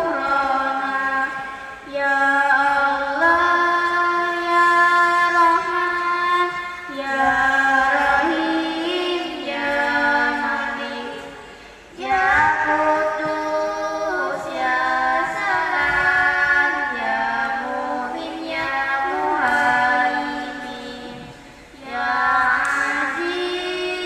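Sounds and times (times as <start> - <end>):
girl singing into a microphone: 0.0 - 24.0.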